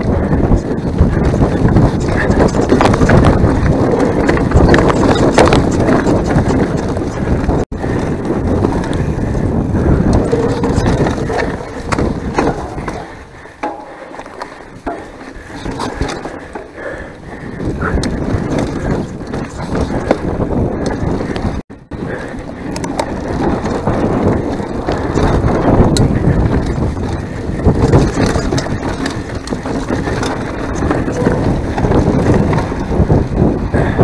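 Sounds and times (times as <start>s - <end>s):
bike rattling and clattering: 0.0s - 34.0s
bike tyres rolling over rocks: 0.0s - 34.0s.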